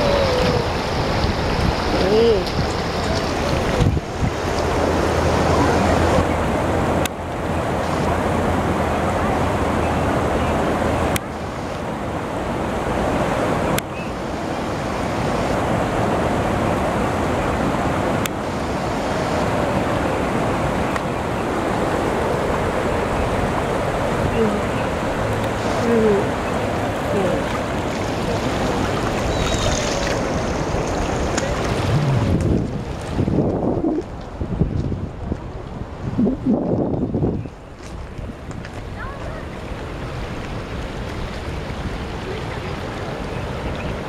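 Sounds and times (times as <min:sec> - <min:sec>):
floodwater rushing: 0:00.0 - 0:44.0.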